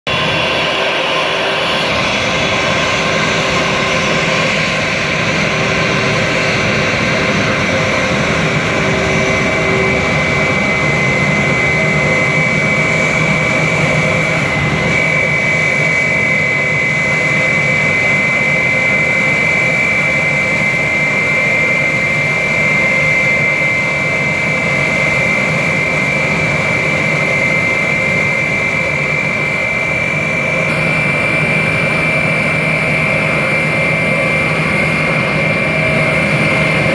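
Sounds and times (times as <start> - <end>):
high jet engine whine: 0.0 - 36.9
jet engine rush: 0.1 - 36.9.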